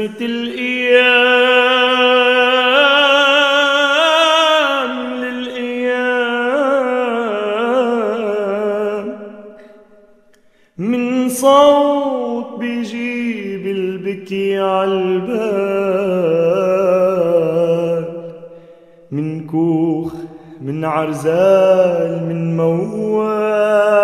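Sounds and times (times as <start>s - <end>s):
man singing ornamented notes: 0.0s - 10.2s, 10.8s - 24.0s.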